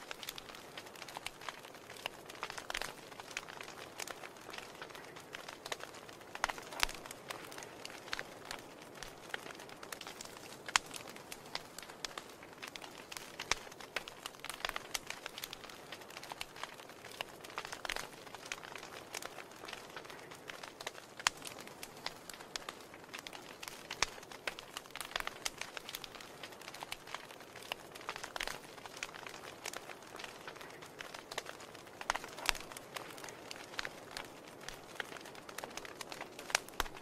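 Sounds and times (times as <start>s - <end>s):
soft steady hiss: 0.0s - 37.0s
wood fire crackling: 0.0s - 37.0s.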